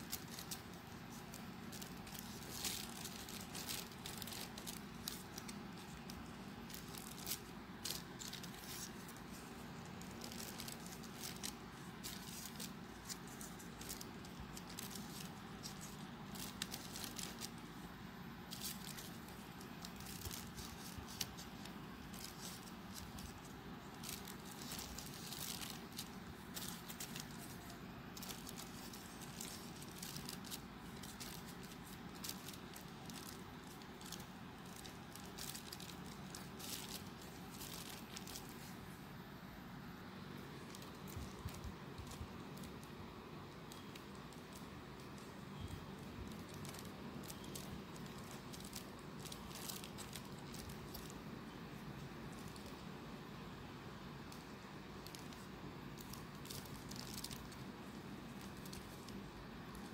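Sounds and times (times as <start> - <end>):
paper rustling and crinkling: 0.0 - 39.2, 39.8 - 59.9
steady low hum: 0.0 - 59.9.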